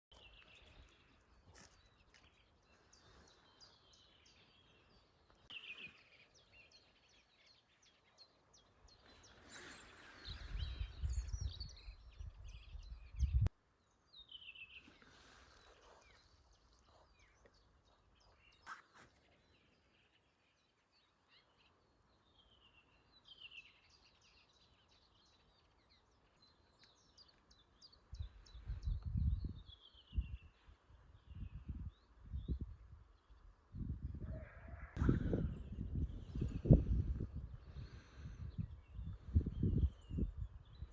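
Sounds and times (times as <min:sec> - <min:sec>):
birds singing and chirping: 0:00.1 - 0:13.5, 0:14.1 - 0:40.9.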